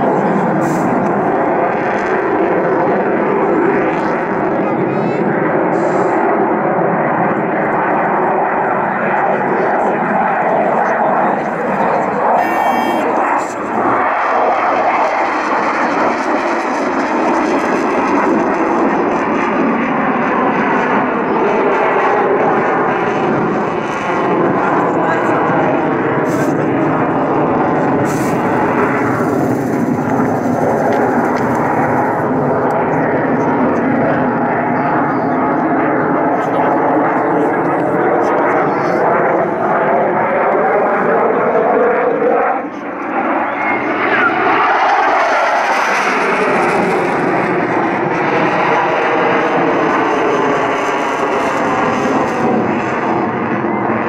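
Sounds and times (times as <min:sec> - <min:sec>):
jet engine roar overhead: 0:00.0 - 0:54.0.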